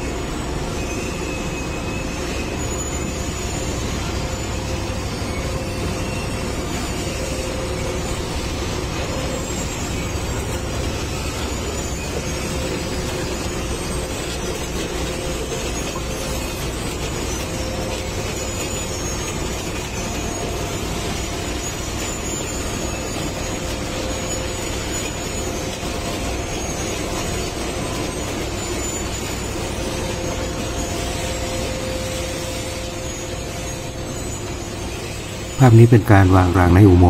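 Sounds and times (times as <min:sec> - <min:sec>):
machinery engine drone: 0:00.0 - 0:37.0.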